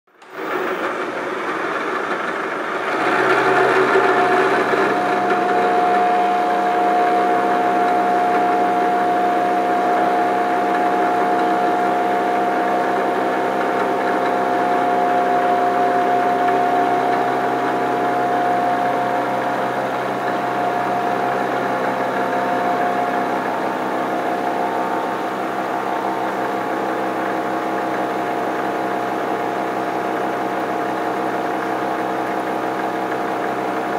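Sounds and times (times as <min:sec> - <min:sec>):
milling machine drone: 0:00.2 - 0:33.9.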